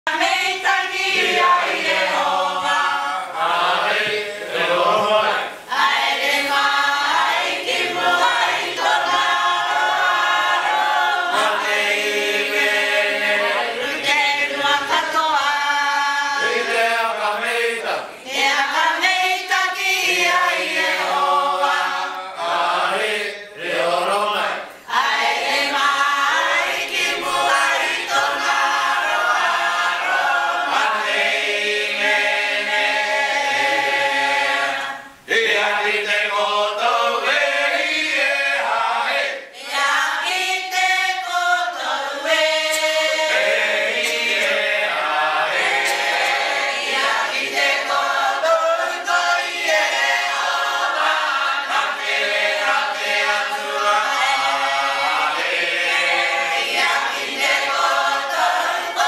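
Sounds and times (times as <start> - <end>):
mixed choir singing a hymn: 0.1 - 59.0.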